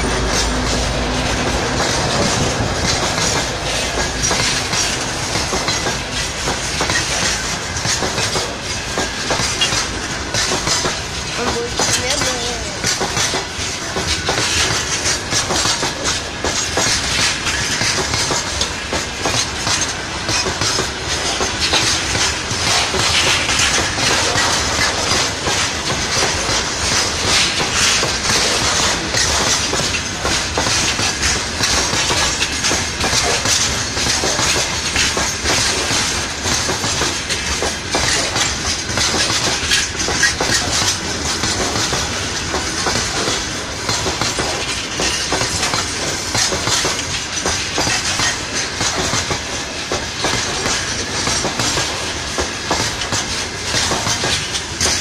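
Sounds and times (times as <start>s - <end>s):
freight train rumbling past: 0.0s - 55.0s
wheels clattering over rail joints: 0.0s - 55.0s.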